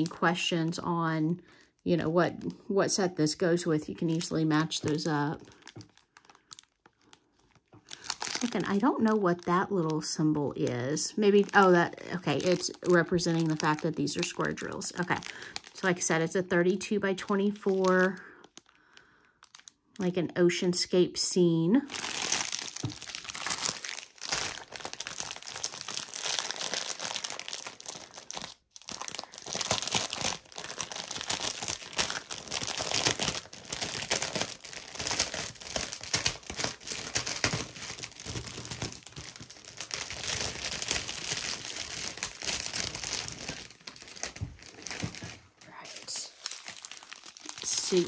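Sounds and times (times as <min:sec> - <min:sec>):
plastic packaging crinkling: 0:00.0 - 0:00.9, 0:03.3 - 0:20.1, 0:21.8 - 0:48.0.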